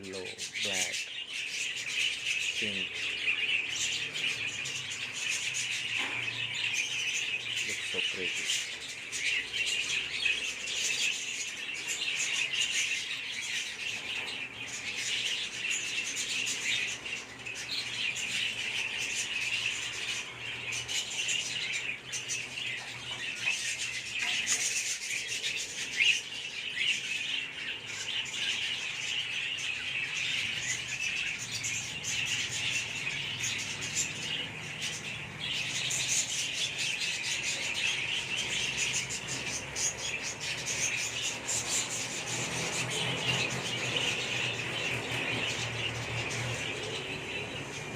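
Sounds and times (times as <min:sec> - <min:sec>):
birds chirping and squawking: 0:00.0 - 0:47.9.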